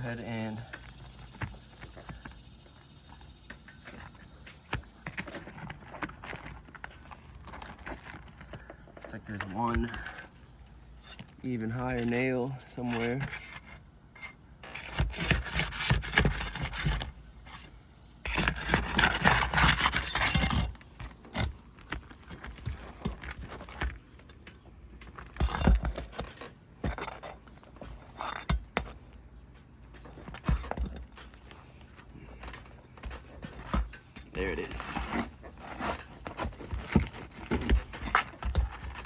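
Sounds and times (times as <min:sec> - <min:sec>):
metal bar scraping under shingles: 0:03.0 - 0:39.0.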